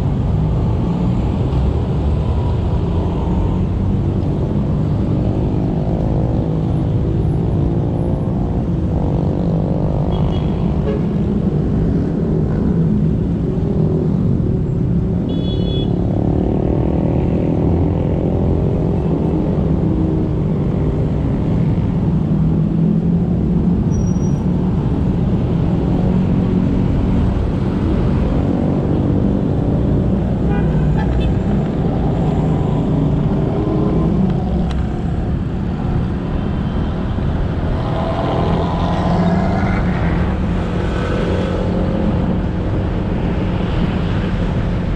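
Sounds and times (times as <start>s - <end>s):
road and wind noise: 0.0s - 44.9s.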